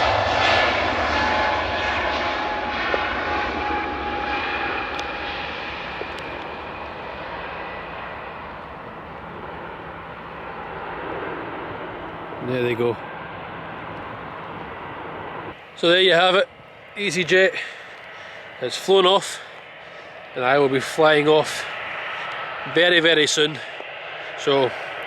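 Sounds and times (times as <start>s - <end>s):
jet airliner taking off: 0.0s - 25.0s.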